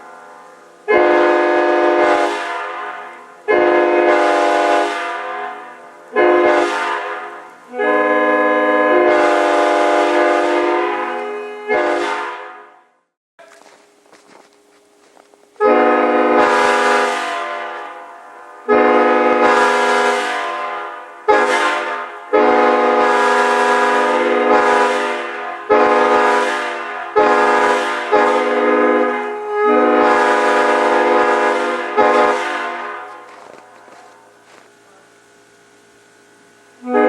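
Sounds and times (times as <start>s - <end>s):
locomotive air horn blasts: 0.0s - 13.6s, 15.6s - 37.0s.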